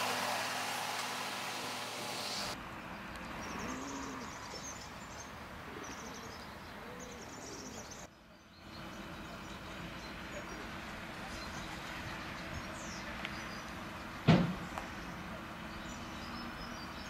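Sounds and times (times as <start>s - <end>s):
small birds chirping: 1.5s - 17.0s.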